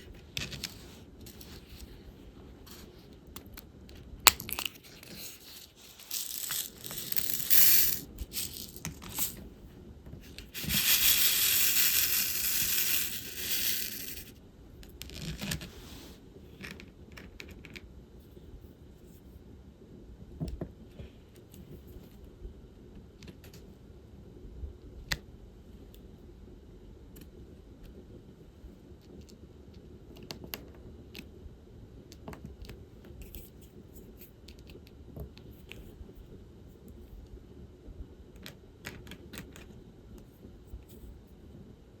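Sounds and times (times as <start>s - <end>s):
low room hum: 0.0s - 42.0s.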